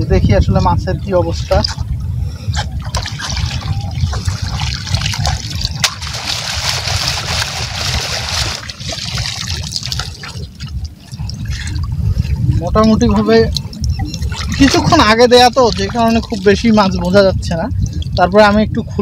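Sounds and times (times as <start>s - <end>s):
steady low rumble: 0.0s - 19.0s
water splashing and trickling: 0.0s - 19.0s.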